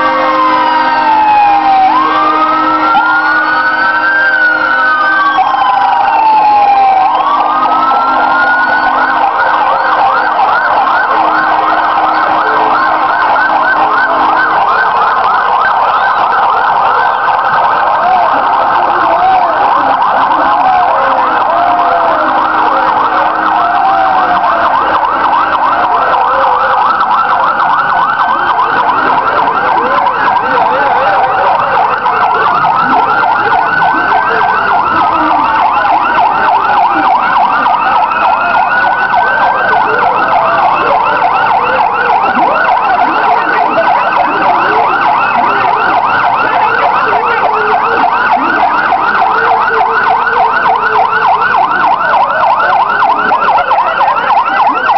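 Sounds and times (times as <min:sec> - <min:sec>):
fire engine siren wailing: 0:00.0 - 0:54.9
fire engine siren yelping: 0:00.0 - 0:54.9.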